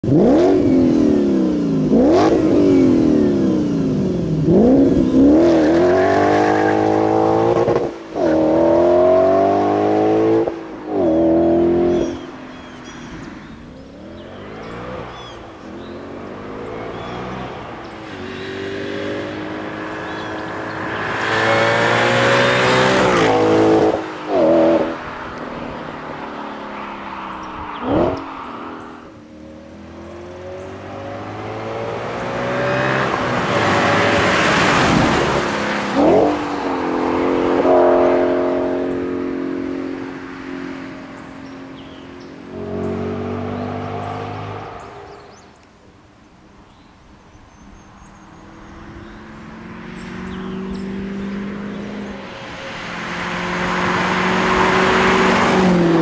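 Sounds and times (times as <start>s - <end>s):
car engine accelerating hard: 0.0s - 45.7s, 47.5s - 56.0s.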